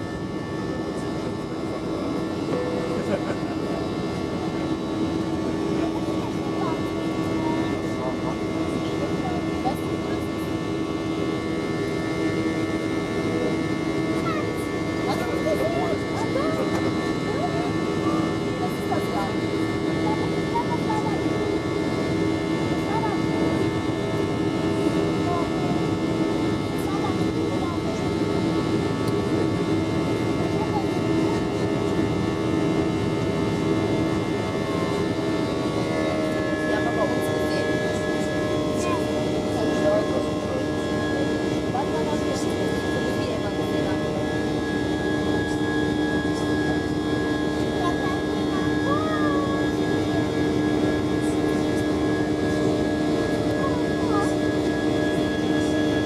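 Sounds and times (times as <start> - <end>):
constant tonal hum: 0.0 - 56.0
jet engine and airflow roar: 0.0 - 56.0.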